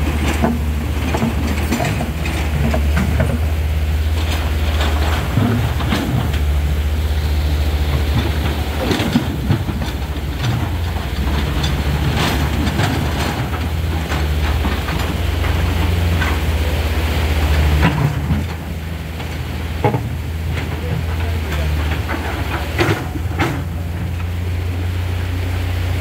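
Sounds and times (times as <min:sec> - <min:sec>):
excavator diesel engines running: 0:00.0 - 0:26.0
steel buckets clanking on rocks: 0:00.0 - 0:26.0.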